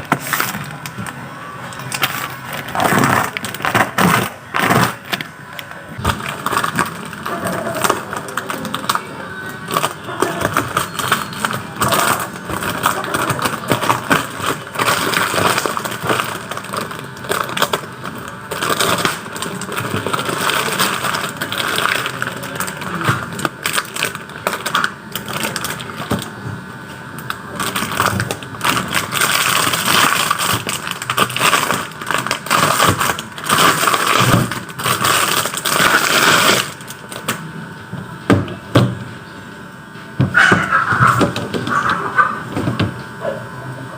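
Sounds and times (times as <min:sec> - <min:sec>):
packaging crinkling: 0:00.0 - 0:26.3, 0:27.2 - 0:37.4.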